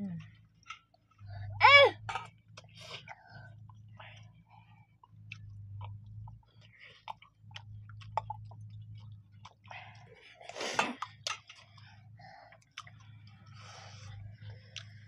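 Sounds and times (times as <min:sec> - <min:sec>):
people chewing and lip smacking: 0:00.0 - 0:15.0.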